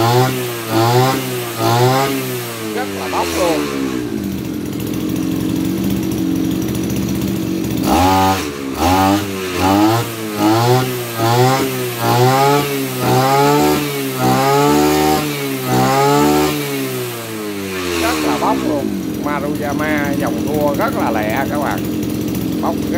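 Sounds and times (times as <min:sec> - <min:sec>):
brush cutter engine revving: 0:00.0 - 0:22.9.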